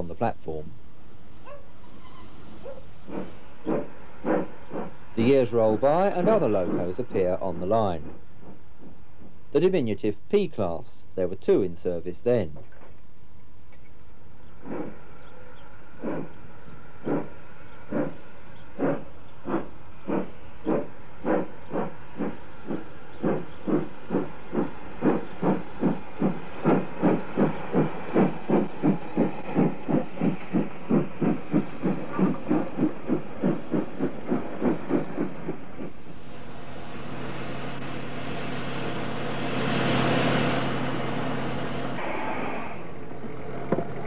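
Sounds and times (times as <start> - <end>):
steam engine exhaust beats: 0.0 - 12.6, 14.0 - 44.0
steam hissing: 1.8 - 9.4, 14.6 - 15.2, 15.8 - 44.0.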